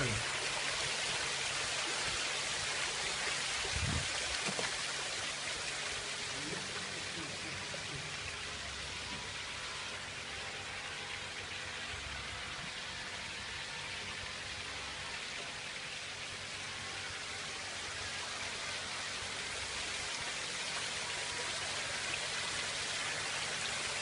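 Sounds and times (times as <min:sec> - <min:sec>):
water falling in garden waterfall: 0:00.0 - 0:24.0.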